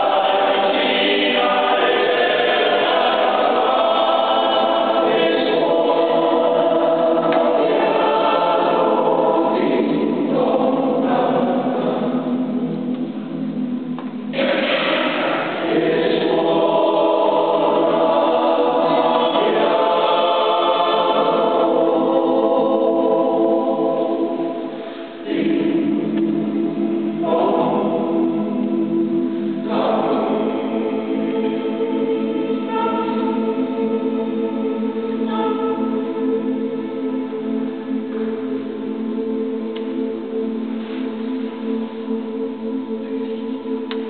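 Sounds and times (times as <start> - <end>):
male choir singing in harmony: 0.0 - 44.0.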